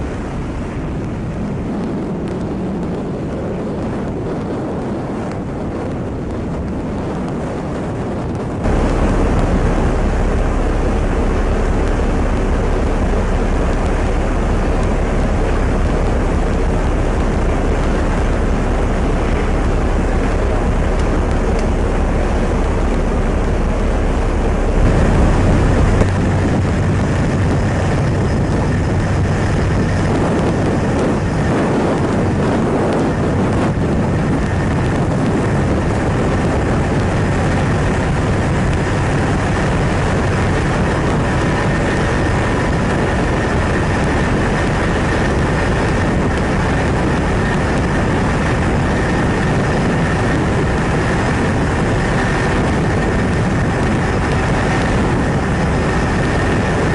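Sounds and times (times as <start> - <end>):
ship rumbling underway: 0.0 - 56.9
faint steady whine: 8.2 - 56.9.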